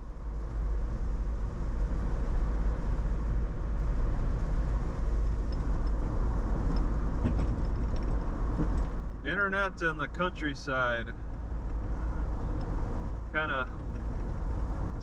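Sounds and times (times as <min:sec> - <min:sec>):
car engine rumble: 0:00.0 - 0:15.0
road and tyre noise: 0:00.0 - 0:15.0.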